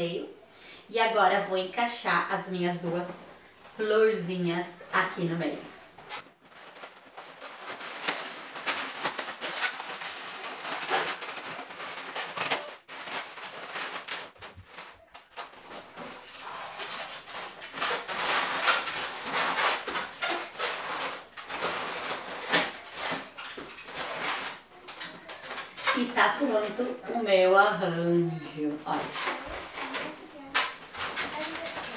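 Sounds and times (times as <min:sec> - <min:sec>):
balloons squeaking and rubbing: 0:04.4 - 0:31.9.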